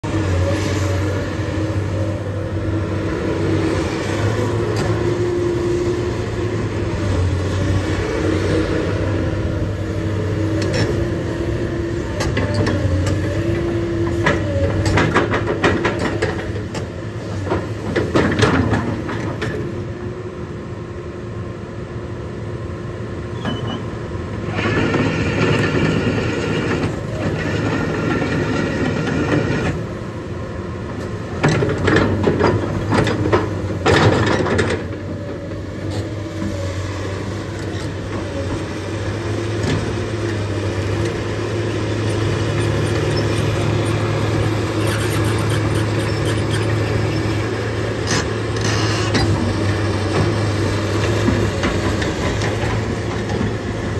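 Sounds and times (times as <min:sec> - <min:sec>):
diesel engine under load: 0:00.0 - 0:53.9.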